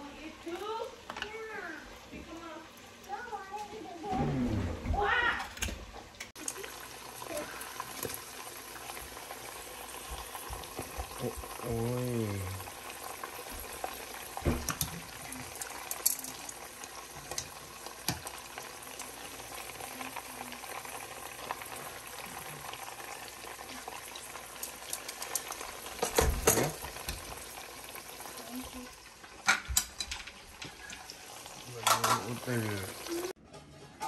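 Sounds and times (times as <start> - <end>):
chicken sizzling in hot oil: 5.9 - 33.4.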